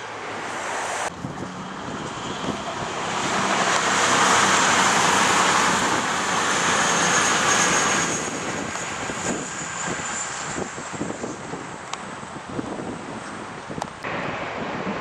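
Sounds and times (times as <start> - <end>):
train passing at speed: 0.0 - 11.4, 14.1 - 15.0.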